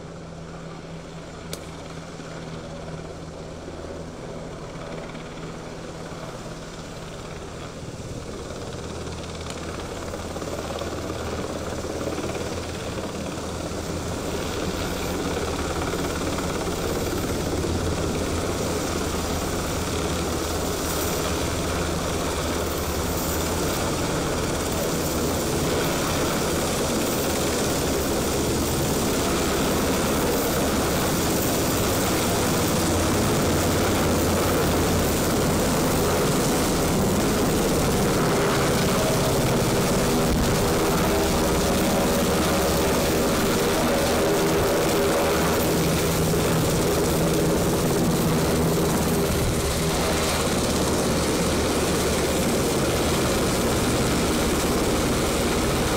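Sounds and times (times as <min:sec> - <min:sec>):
helicopter rotors and engines: 0:00.0 - 0:55.9.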